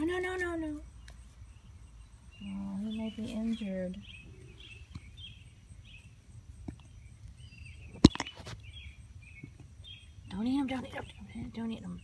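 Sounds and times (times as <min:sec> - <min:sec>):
birds chirping: 0:00.0 - 0:12.0
faint outdoor noise: 0:00.0 - 0:12.0.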